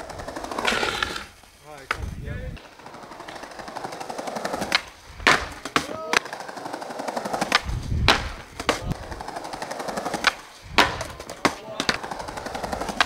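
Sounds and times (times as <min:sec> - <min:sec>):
skateboard clacking on stone ledge: 0:00.0 - 0:13.0
skateboard tail popping: 0:00.0 - 0:13.0
skateboard wheels rolling on paving: 0:00.0 - 0:13.0.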